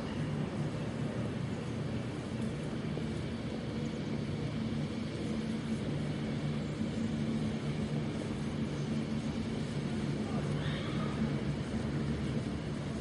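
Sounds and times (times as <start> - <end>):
low mechanical rumble with hum: 0.0 - 13.0.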